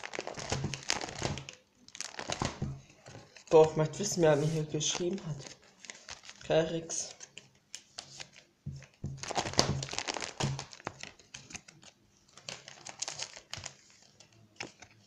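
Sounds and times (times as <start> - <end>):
plastic packaging crinkling: 0.0 - 7.4, 8.0 - 15.0.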